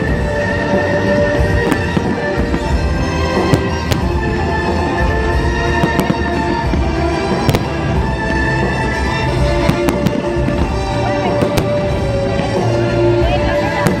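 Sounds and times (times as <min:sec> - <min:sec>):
fireworks bangs: 0:00.0 - 0:14.0
loud music with held notes: 0:00.0 - 0:14.0.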